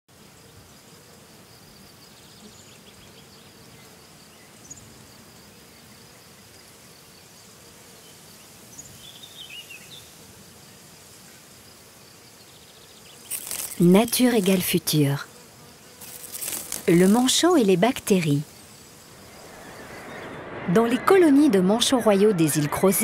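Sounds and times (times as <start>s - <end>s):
insects buzzing: 0.1s - 22.8s.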